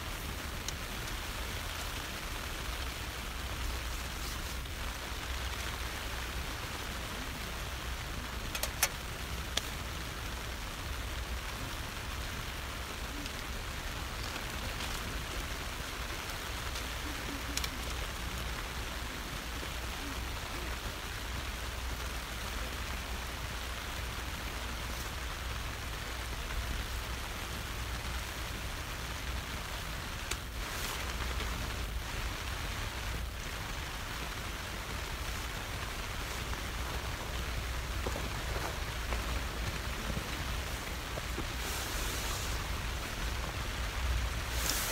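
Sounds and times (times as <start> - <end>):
rain on a tent: 0.0 - 44.9.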